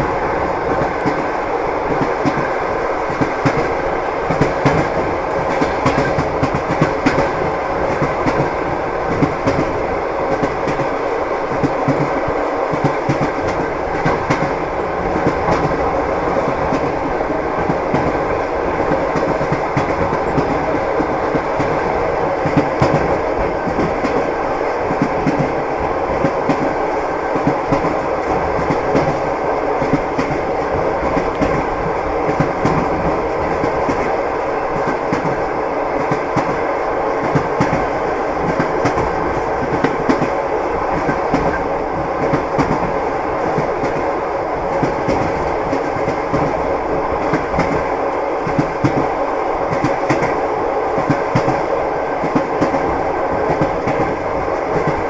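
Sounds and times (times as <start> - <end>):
train wheels clicking over rail joints: 0.0 - 50.4
moving train rumble: 0.0 - 55.0.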